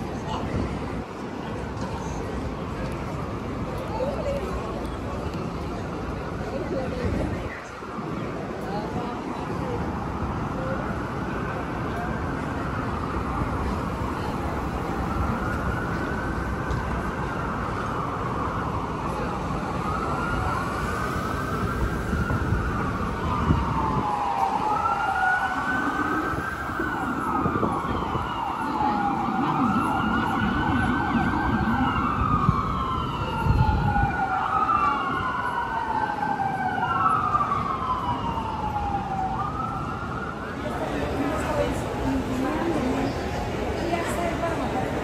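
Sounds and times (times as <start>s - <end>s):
emergency sirens wailing: 0.0s - 45.0s
low city traffic rumble: 0.0s - 45.0s.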